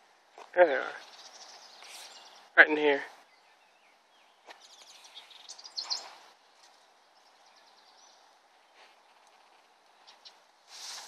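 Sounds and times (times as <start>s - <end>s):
small birds chirping and trilling: 0.4s - 11.0s.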